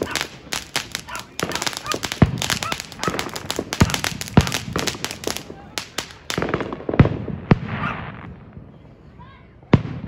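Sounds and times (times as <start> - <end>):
fireworks crackling pops: 0.0 - 8.4
fireworks bangs: 0.0 - 8.8, 9.7 - 10.0.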